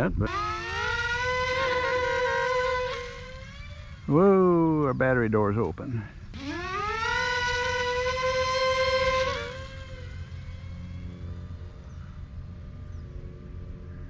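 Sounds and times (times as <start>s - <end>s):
model plane motor whining: 0.0s - 5.0s, 6.3s - 13.9s.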